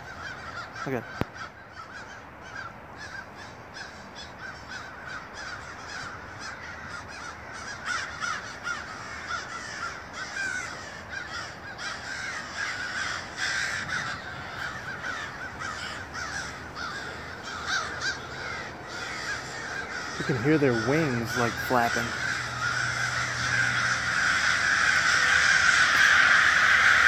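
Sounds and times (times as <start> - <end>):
crows cawing: 0.0 - 27.0.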